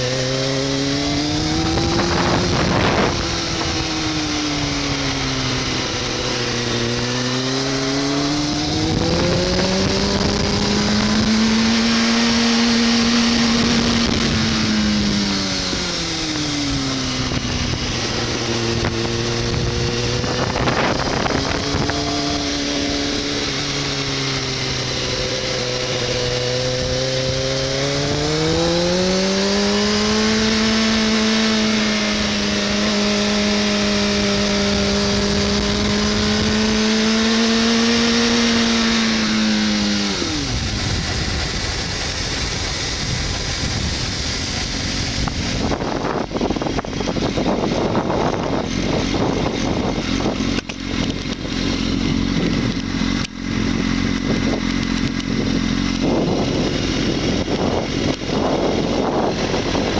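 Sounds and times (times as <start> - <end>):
motorcycle engine: 0.0 - 59.9
wind rushing over microphone: 0.0 - 59.9.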